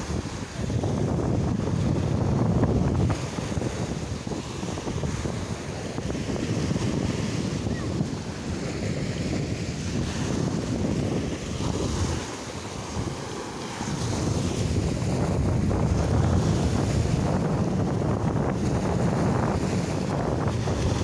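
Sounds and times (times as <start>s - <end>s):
small waves breaking on sand: 0.0s - 21.0s
wind buffeting microphone: 0.0s - 21.0s.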